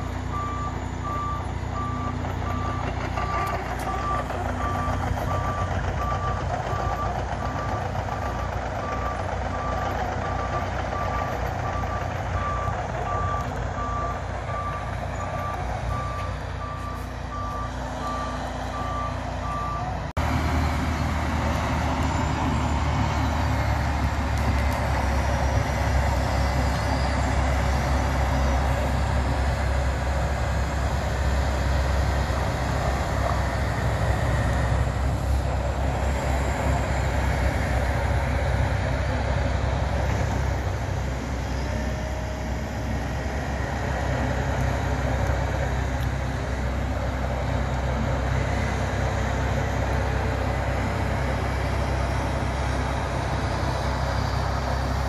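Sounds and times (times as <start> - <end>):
milling machine diesel drone: 0.0 - 55.0
truck engines: 0.0 - 55.0.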